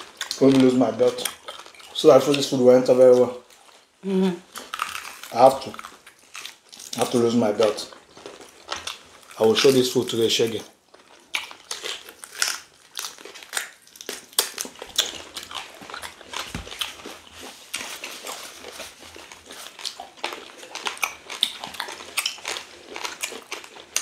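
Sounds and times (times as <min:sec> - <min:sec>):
people chewing and lip smacking: 0:00.0 - 0:24.0.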